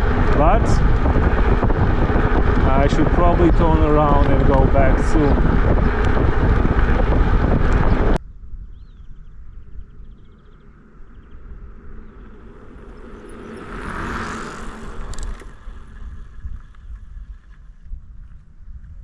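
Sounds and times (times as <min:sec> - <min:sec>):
vehicle passing: 0:00.0 - 0:08.2, 0:09.4 - 0:17.6
wind rumble on microphone: 0:00.0 - 0:19.0.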